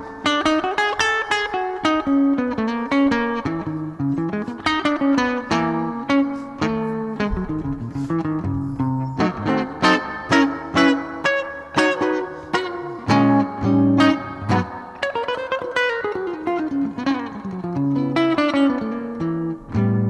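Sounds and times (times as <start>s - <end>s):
guitar playing: 0.0s - 20.0s.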